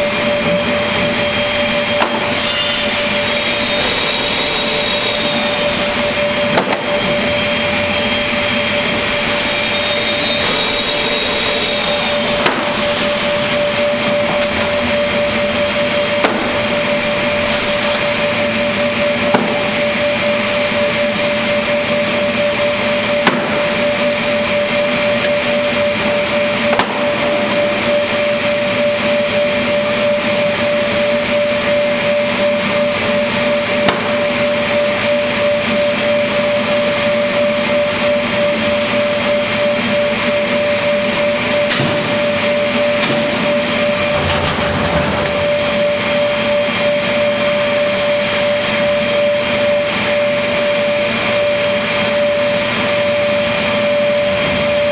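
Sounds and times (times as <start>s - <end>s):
steady high tone: 0.0s - 44.2s
cutting machine humming: 0.0s - 54.9s.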